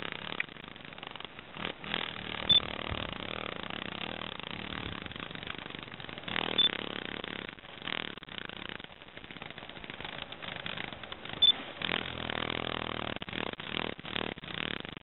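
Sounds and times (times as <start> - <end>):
cicada raspy distress buzz: 0.0 - 14.9.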